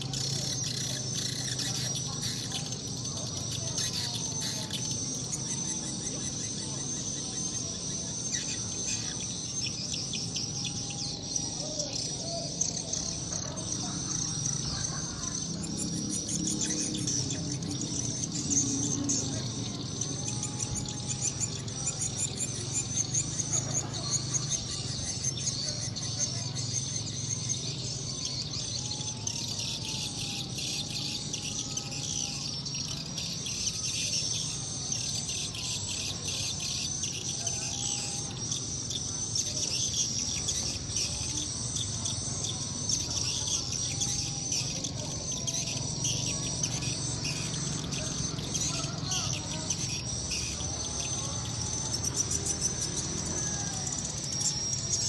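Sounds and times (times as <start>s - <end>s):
high-pitched bird twittering: 0.0s - 55.0s.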